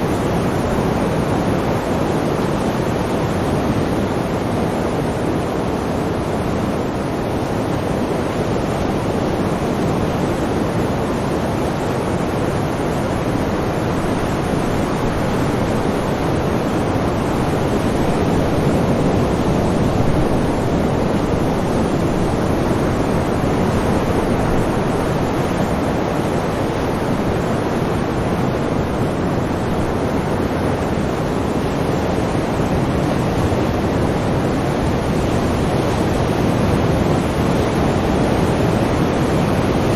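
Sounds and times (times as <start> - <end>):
waves washing: 0.0 - 39.9.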